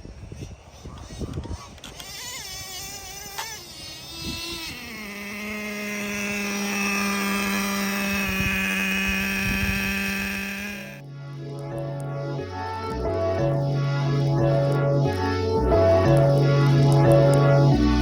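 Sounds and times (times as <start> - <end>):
small two-stroke engine droning: 0.0 - 18.0.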